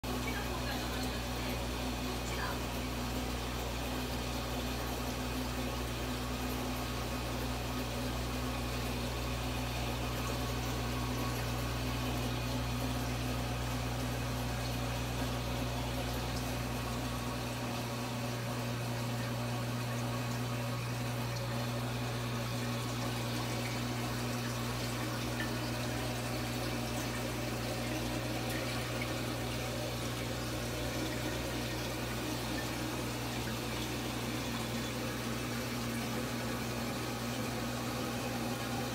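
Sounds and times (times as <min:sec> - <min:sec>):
water running through a hose: 0:00.0 - 0:38.9
steady low hum: 0:00.1 - 0:38.9.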